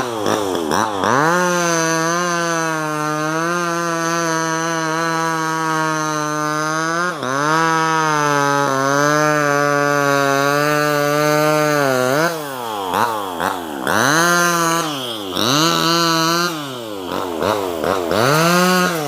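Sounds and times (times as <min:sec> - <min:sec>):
chainsaw cutting at high revs: 0:00.0 - 0:19.0.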